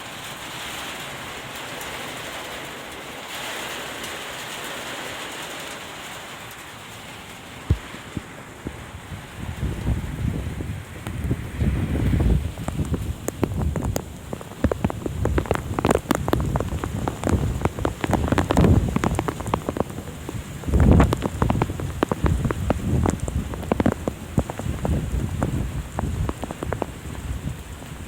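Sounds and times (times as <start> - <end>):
heavy rain: 0.0 - 28.0
raindrops ticking near microphone: 0.0 - 28.0.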